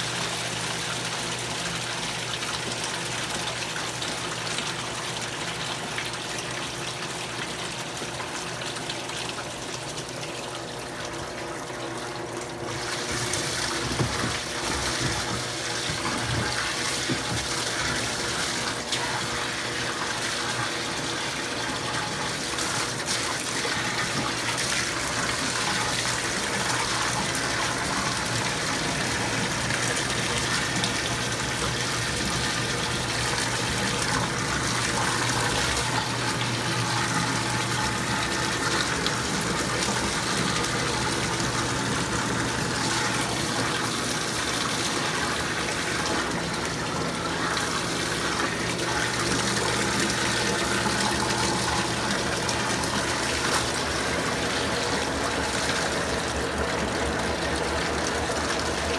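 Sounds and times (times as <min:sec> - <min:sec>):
low washing machine hum: 0:00.0 - 0:58.9
water rushing into washing machine: 0:00.0 - 0:58.9.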